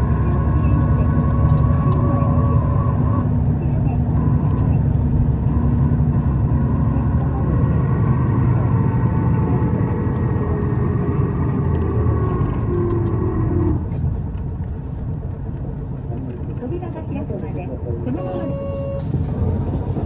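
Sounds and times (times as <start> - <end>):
bus engine rumble: 0.0 - 20.0
faint drivetrain whine: 0.0 - 20.0.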